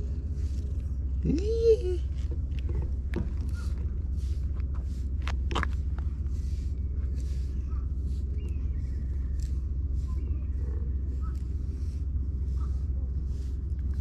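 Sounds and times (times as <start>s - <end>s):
brush swishing through fur: 0.0s - 1.2s, 2.9s - 14.0s
low rumble: 0.0s - 14.0s.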